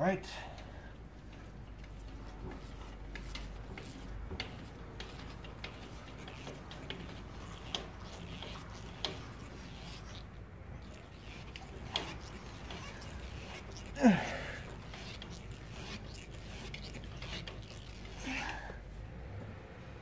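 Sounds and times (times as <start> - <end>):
jack rod metal clicks and rattles: 0.5 - 18.2.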